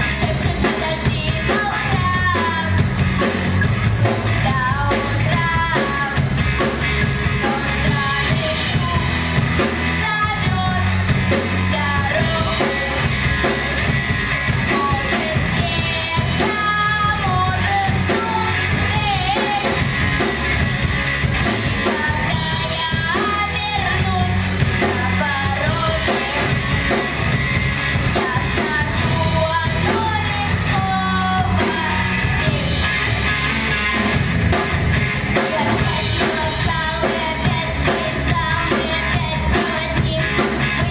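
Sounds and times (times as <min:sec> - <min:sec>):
rock band drums and guitar: 0:00.0 - 0:40.9
woman singing rock song: 0:00.0 - 0:40.9.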